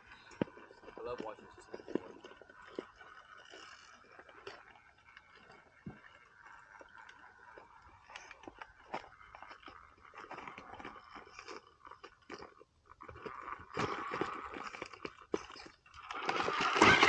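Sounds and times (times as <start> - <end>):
toy truck crunching over rocks: 0.0 - 17.0.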